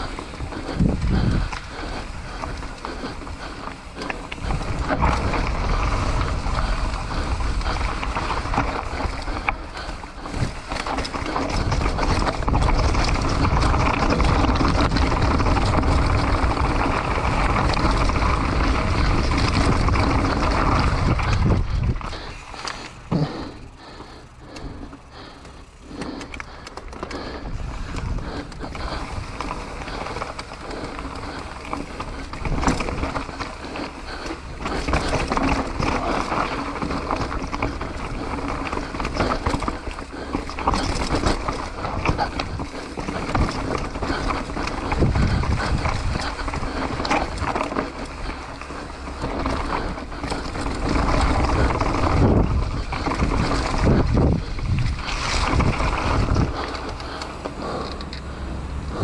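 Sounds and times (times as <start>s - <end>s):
bike rattling and knocking: 0.0s - 59.0s
tyres rolling over dirt: 0.0s - 59.0s
wind rumbling on microphone: 0.0s - 59.0s.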